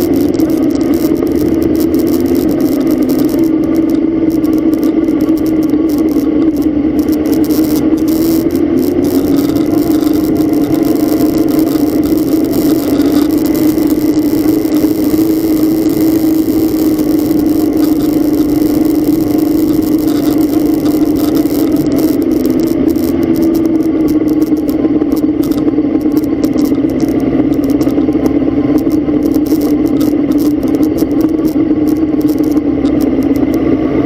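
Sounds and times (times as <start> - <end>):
car engine and road drone: 0.0 - 34.0
heavy rain: 0.0 - 34.0.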